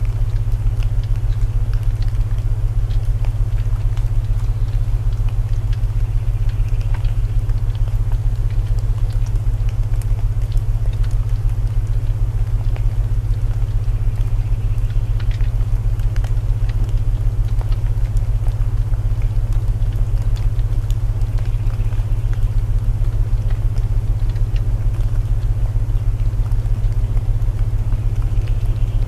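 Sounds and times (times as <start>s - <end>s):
faint rain: 0.0s - 29.0s
wood fire crackling: 0.0s - 29.0s.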